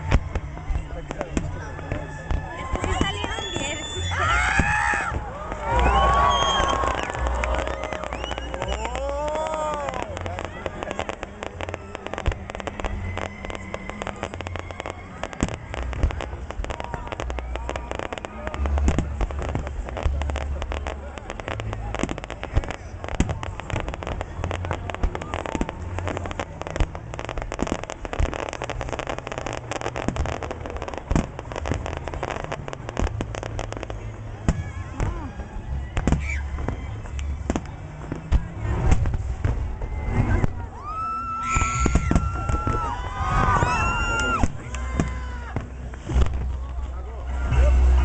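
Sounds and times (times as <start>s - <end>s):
fireworks bangs: 0.0s - 48.0s
fireworks popping and crackling: 0.0s - 48.0s.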